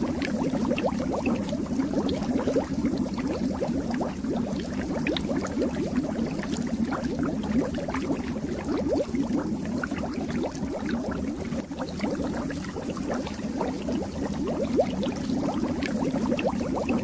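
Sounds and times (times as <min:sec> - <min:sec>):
aquarium water bubbling: 0:00.0 - 0:17.0.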